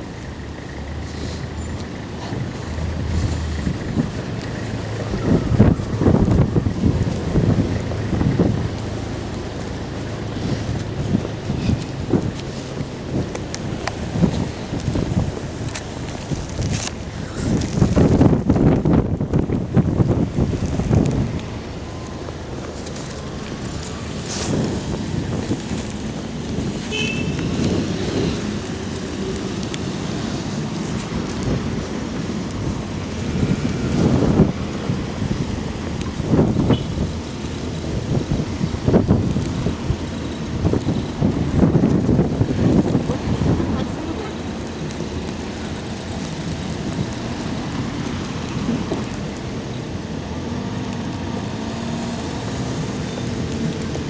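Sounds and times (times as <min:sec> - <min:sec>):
blizzard wind gusting: 0:00.0 - 0:54.0
road traffic: 0:00.0 - 0:54.0.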